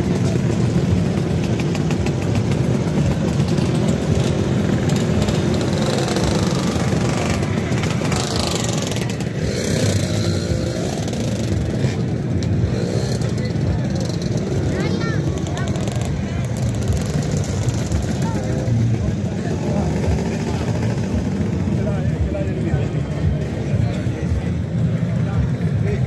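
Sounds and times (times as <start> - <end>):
scooter engines droning: 0.0 - 26.0.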